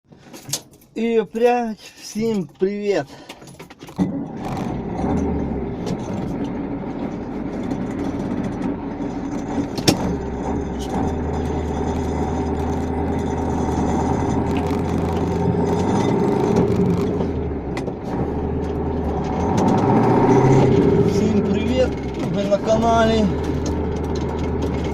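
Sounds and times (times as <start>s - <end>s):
truck diesel engine running: 4.1s - 24.9s.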